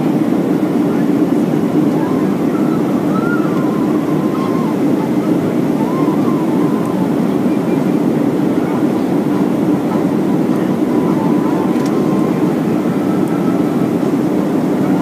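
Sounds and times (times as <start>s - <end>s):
airplane cabin airflow rush: 0.0s - 15.0s
faint steady engine whine: 0.0s - 15.0s.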